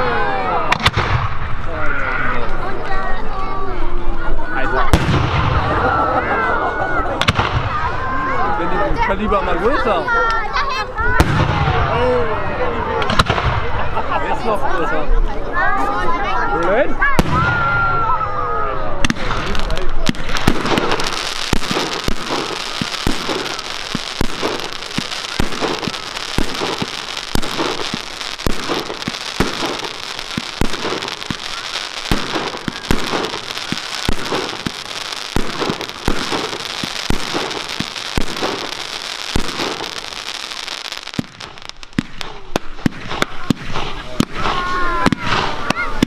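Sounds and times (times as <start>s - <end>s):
fireworks bangs: 0.0s - 3.3s, 4.2s - 8.4s, 11.0s - 14.0s, 17.0s - 46.0s
fireworks crackling: 0.0s - 13.9s, 16.4s - 46.0s.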